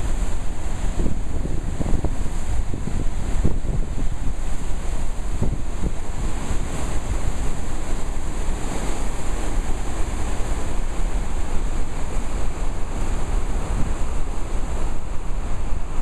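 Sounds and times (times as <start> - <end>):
whitewater rushing: 0.0 - 16.0
wind buffeting microphone: 0.0 - 16.0.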